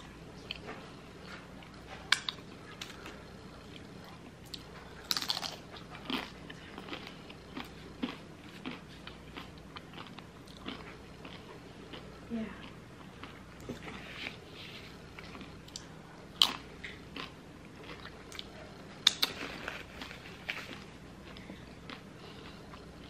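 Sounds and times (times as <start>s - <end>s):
person chewing crunchy fries: 0.4s - 23.0s.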